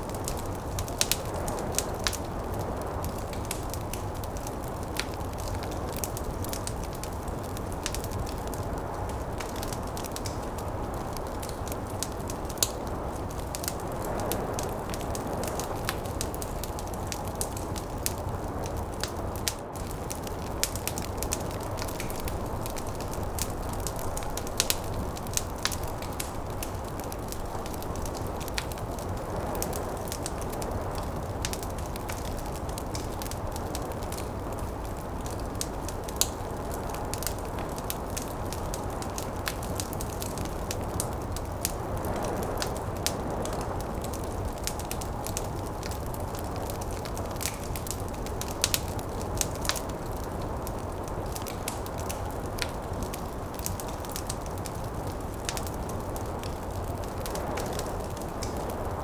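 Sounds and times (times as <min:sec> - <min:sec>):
low rush of flame: 0:00.0 - 0:59.0
wind: 0:00.0 - 0:59.0
wood fire crackling: 0:00.0 - 0:59.0.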